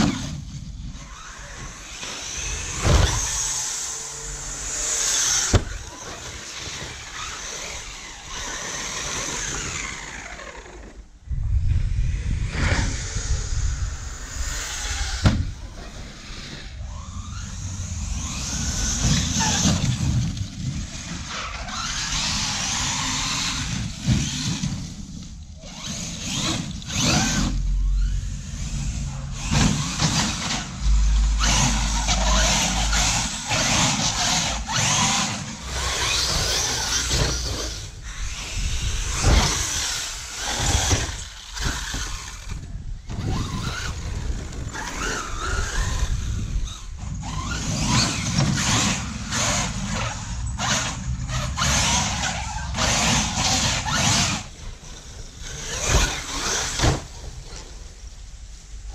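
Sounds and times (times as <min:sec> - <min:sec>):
toy truck motor whining: 0:00.0 - 0:11.2, 0:12.5 - 0:57.8.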